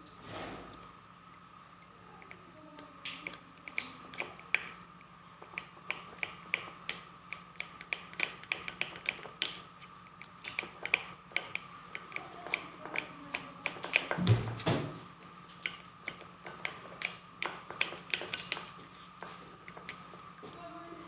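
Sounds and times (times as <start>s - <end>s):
faint steady hum: 0.0s - 21.0s
sharp irregular clicks: 2.2s - 14.3s, 15.6s - 20.4s.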